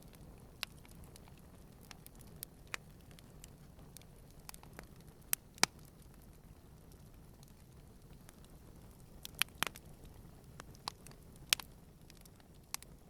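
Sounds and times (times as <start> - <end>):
campfire crackling and popping: 0.0 - 13.0
fire low rumble: 0.0 - 13.0.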